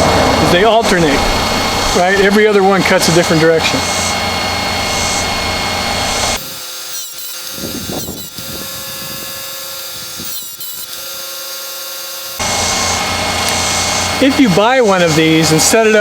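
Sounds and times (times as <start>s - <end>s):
chain sharpener grinding: 0.0s - 16.0s
motor whining: 0.0s - 16.0s.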